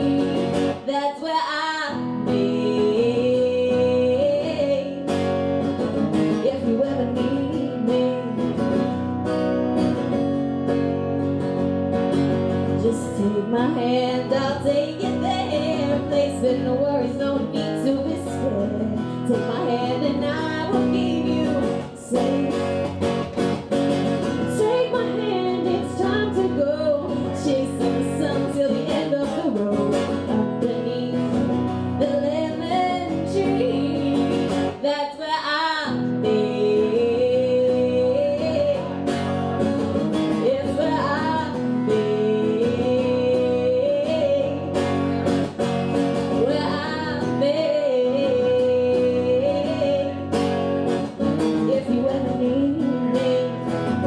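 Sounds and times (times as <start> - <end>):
strummed acoustic guitar: 0.0 - 54.0
woman singing: 0.0 - 54.0.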